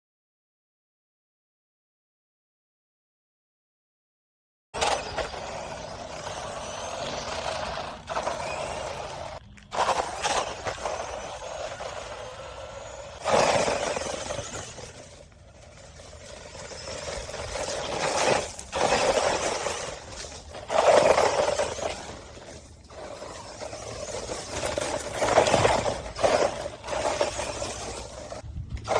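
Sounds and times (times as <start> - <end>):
rc truck motor and tyres: 4.8 - 28.9.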